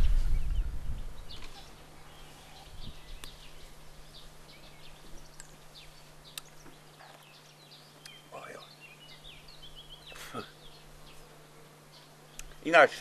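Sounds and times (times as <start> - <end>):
birds chirping and calling: 0.0 - 12.9.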